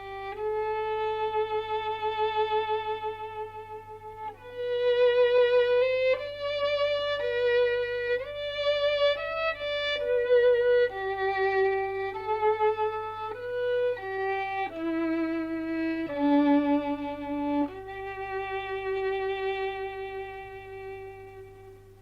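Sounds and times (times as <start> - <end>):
solo violin slow melody: 0.0 - 22.0.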